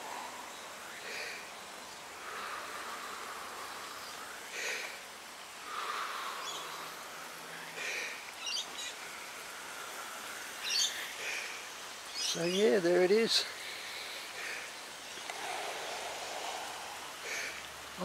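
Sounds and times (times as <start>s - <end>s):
background hiss: 0.0s - 18.0s
birds chirping: 0.0s - 18.0s.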